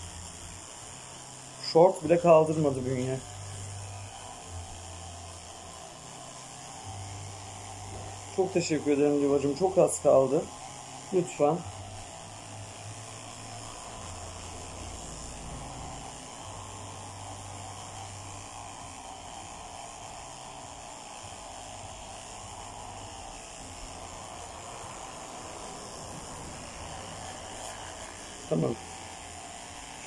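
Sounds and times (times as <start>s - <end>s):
electric clippers humming: 0.0s - 30.0s.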